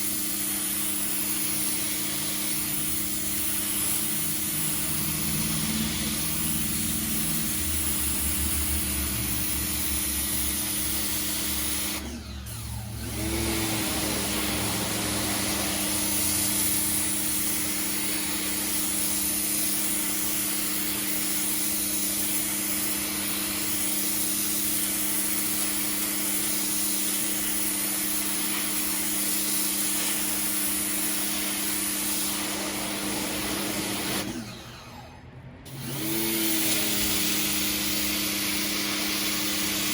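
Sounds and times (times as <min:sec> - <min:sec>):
pressure washer motor humming: 0:00.0 - 0:39.9.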